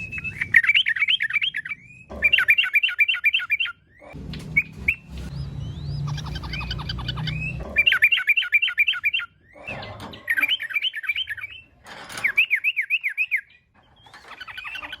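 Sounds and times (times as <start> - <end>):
bird chattering calls: 0.0 - 15.0.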